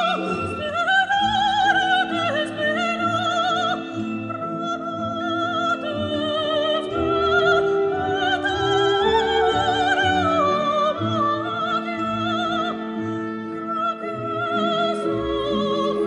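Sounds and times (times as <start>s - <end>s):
orchestra playing: 0.0s - 16.0s
soprano singing with vibrato: 0.0s - 16.0s.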